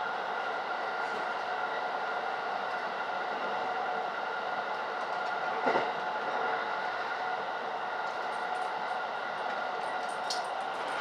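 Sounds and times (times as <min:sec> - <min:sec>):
multi-tone train whine: 0:00.0 - 0:11.0
train running noise: 0:00.0 - 0:11.0.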